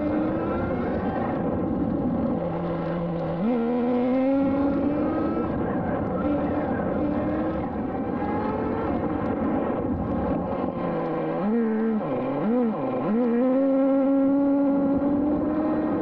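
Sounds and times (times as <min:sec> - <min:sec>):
nitro engine running: 0:00.0 - 0:16.0.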